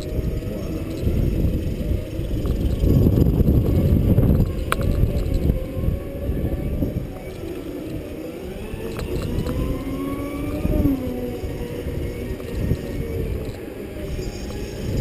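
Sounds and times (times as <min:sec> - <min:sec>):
electric drive whining: 0:00.0 - 0:15.0
low rumble: 0:00.0 - 0:15.0.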